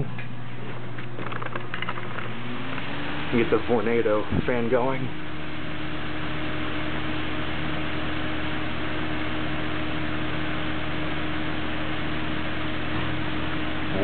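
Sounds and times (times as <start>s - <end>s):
fan blowing: 0.0s - 14.0s
microwave oven humming: 0.0s - 14.0s.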